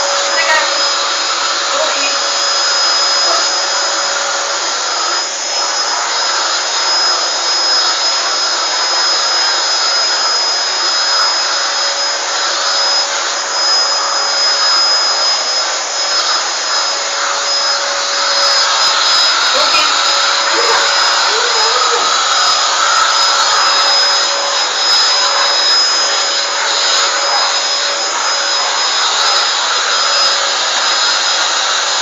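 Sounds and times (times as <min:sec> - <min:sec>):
vacuum cleaner whining: 0:00.0 - 0:32.0.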